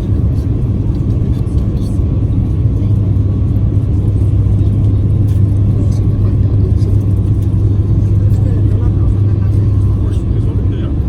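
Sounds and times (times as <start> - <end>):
jet engines deep rumble in cabin: 0.0 - 11.0.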